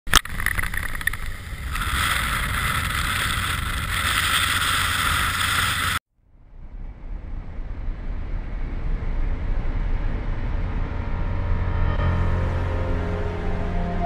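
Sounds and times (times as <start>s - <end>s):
motorcycle engine rumble: 0.1s - 13.7s
wind rushing over microphone: 0.2s - 11.7s.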